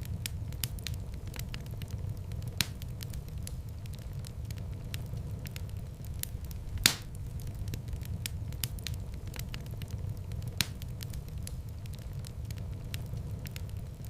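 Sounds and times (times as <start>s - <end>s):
fire crackling: 0.0s - 14.0s
loud pops of fire: 0.0s - 14.0s
low rumble of flames: 0.0s - 14.0s.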